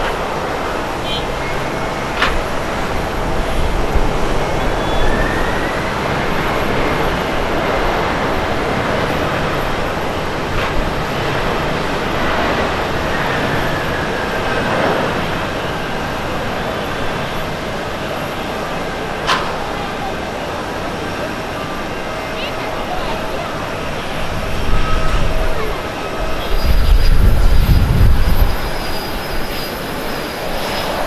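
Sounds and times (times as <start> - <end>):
jet engines roaring with whine: 0.0 - 31.0.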